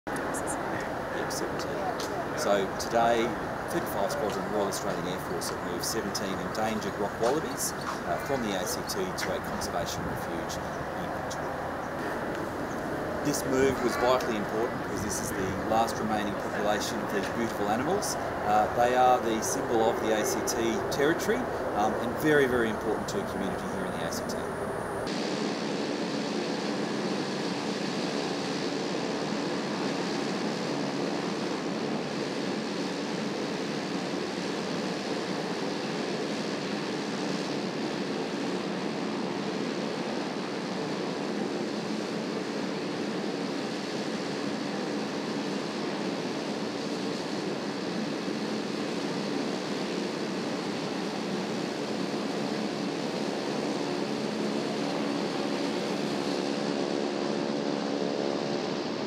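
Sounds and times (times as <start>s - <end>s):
airfield rushing roar: 0.1s - 59.0s
faint engine hum: 0.1s - 59.0s.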